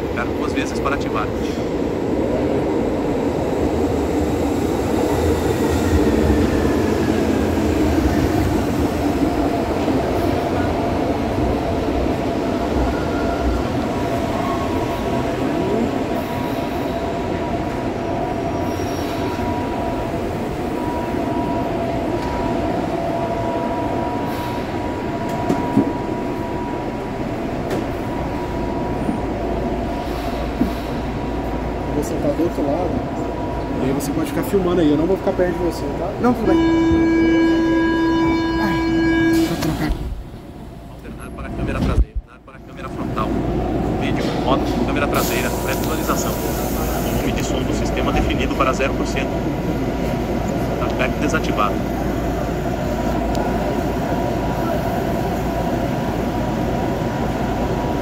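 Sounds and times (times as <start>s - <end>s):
train high whine: 0.0s - 41.8s, 42.5s - 58.0s.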